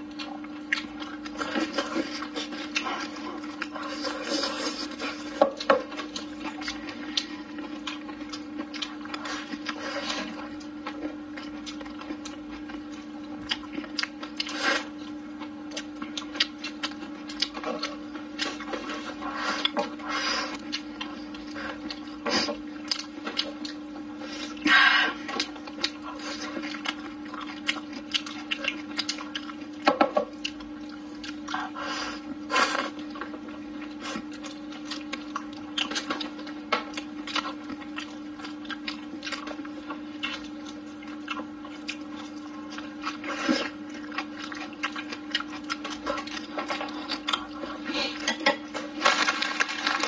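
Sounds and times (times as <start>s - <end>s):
chewing and mouth sounds: 0.0s - 50.0s
steady low hum: 0.0s - 50.0s.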